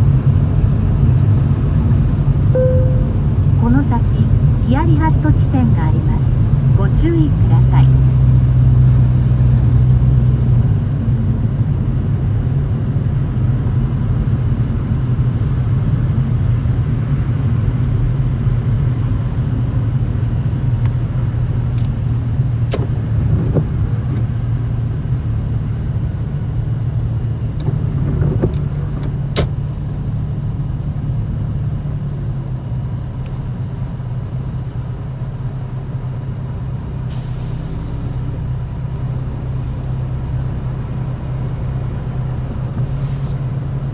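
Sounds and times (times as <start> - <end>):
low exhaust drone: 0.0 - 43.9.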